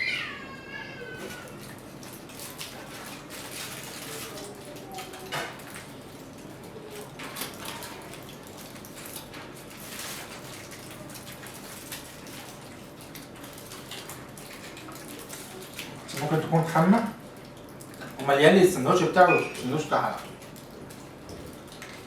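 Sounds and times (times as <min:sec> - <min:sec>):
soft clicks and rustles of eating: 0:01.2 - 0:22.0.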